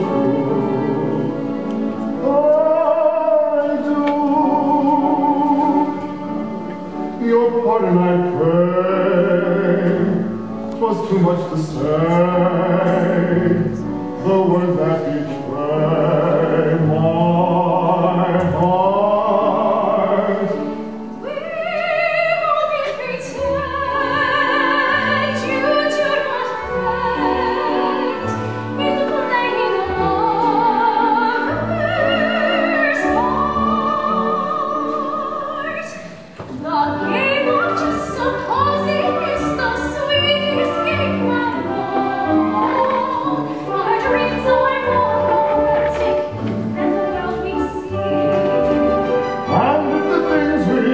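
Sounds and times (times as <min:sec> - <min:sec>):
orchestral accompaniment: 0:00.0 - 0:50.9
soprano singing with vibrato: 0:00.0 - 0:50.9.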